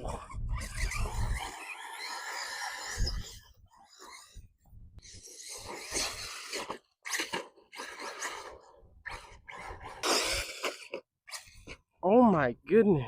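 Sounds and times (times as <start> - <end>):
toy car motor and tyres crunching: 0.0 - 11.9.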